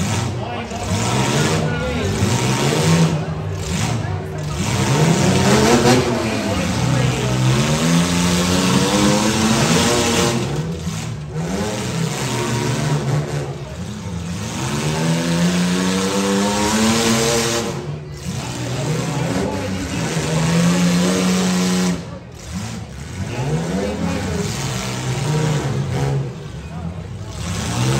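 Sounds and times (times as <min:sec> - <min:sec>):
car engines revving: 0:00.0 - 0:27.9
large crowd noise: 0:00.0 - 0:27.9.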